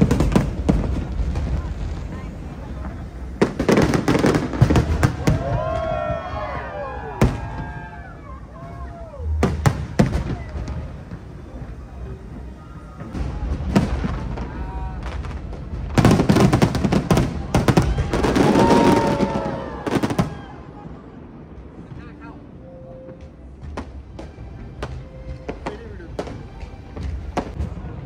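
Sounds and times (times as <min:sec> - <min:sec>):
fireworks exploding: 0:00.0 - 0:28.0.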